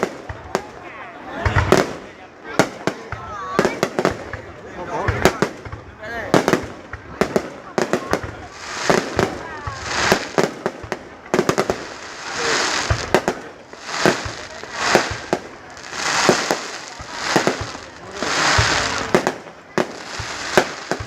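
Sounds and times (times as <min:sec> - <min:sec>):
fireworks bursting with crackle: 0:00.0 - 0:21.0.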